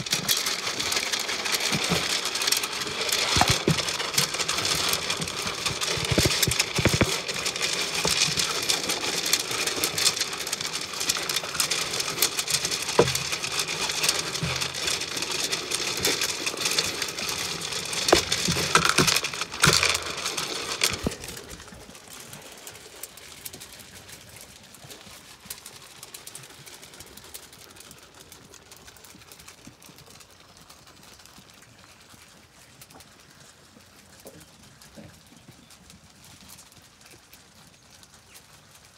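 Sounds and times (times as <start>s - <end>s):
sheep chewing on microphone: 0.0s - 38.9s.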